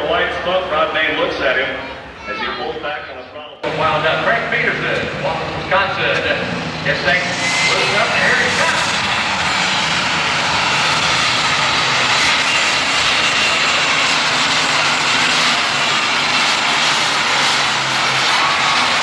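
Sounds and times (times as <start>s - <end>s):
diesel tractor engine blaring: 3.6s - 19.0s.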